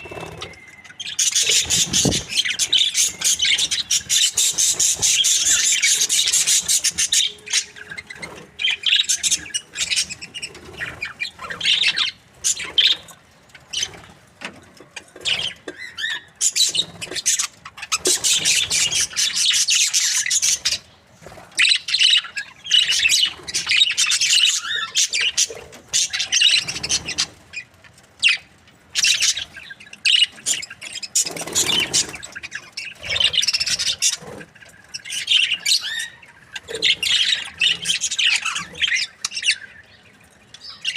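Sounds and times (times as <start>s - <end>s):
budgerigars chirping and chattering: 0.0s - 40.9s.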